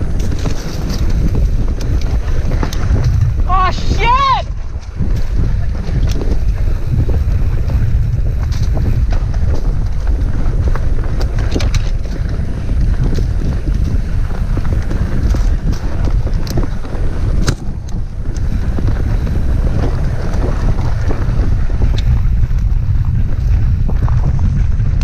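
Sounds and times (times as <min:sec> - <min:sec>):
bike clicks and rattles: 0:00.0 - 0:25.0
bike tyre noise on dirt: 0:00.0 - 0:25.0
wind buffeting microphone: 0:00.0 - 0:25.0.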